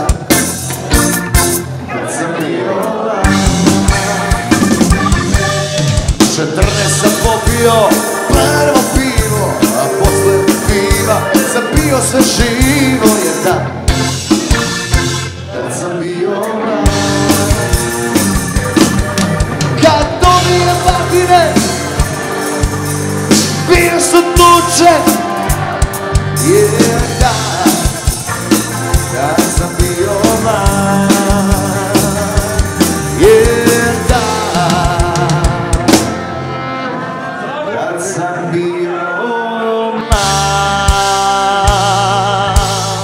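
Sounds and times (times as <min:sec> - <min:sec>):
drum kit beat: 0:00.0 - 0:01.8, 0:03.2 - 0:15.4, 0:16.4 - 0:36.3, 0:40.1 - 0:43.0
pop-rock band playing: 0:00.0 - 0:43.0.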